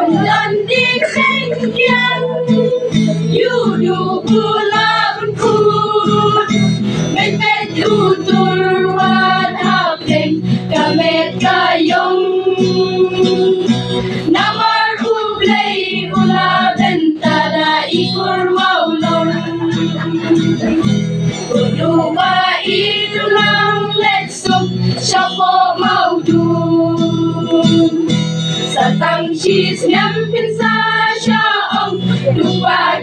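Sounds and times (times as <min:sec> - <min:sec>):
group of voices singing: 0:00.0 - 0:06.5, 0:07.1 - 0:28.1, 0:28.7 - 0:33.0
strummed acoustic guitar: 0:00.0 - 0:33.0.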